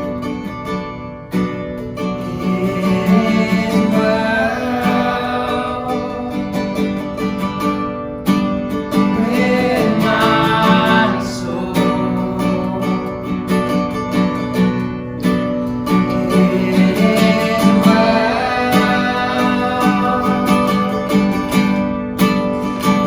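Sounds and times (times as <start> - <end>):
strummed acoustic guitar: 0.0 - 23.0
worship band music: 1.4 - 23.0.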